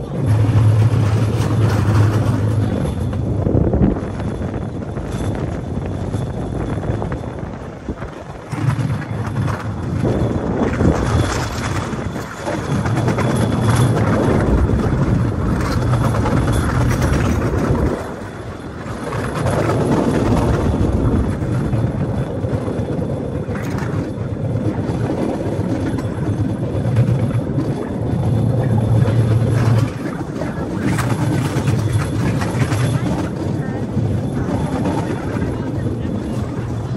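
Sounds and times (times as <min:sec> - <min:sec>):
wheels rumbling on track: 0:00.0 - 0:36.9.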